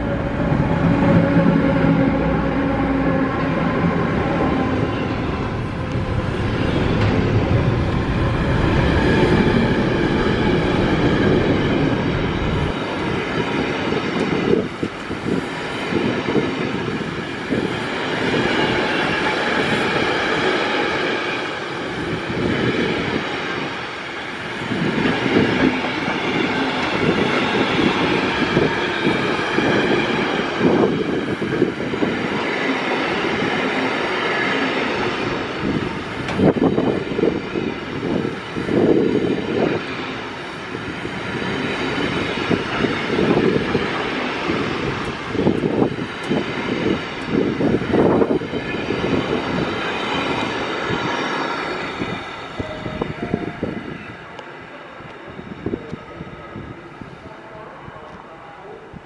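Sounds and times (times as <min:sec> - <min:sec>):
train wheels clattering on rails: 0:05.7 - 0:53.7.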